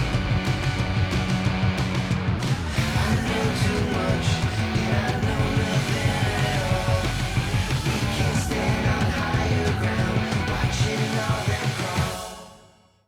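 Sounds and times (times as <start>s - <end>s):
rock music with distorted guitars: 0.0s - 12.5s.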